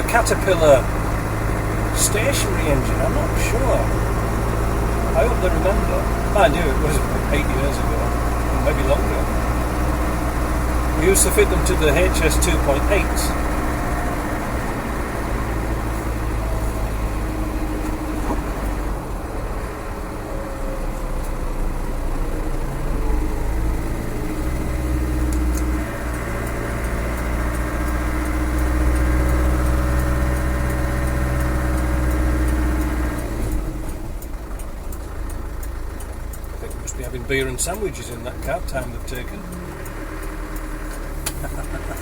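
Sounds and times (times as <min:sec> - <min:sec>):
diesel engine running: 0:00.0 - 0:42.0
road noise: 0:00.0 - 0:42.0.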